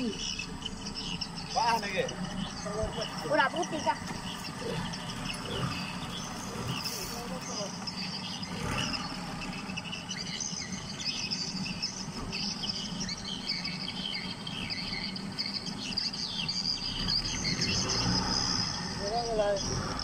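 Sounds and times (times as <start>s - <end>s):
birds chirping and trilling: 0.0s - 20.0s
insects chirping: 0.0s - 20.0s.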